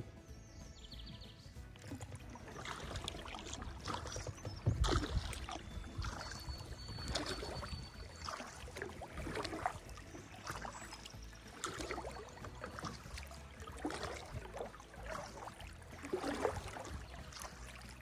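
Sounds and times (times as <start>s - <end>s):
paddle splashing through water: 0.0s - 18.0s.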